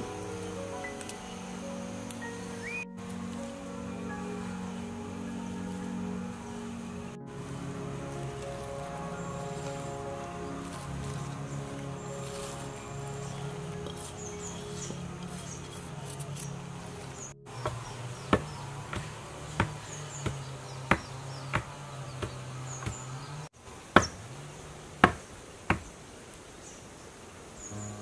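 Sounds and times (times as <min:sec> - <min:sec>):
soft background music: 0:00.0 - 0:23.4.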